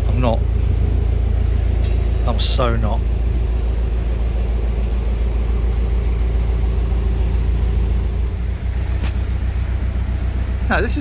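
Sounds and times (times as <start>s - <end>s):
diesel boat engine throbbing: 0.0s - 11.0s.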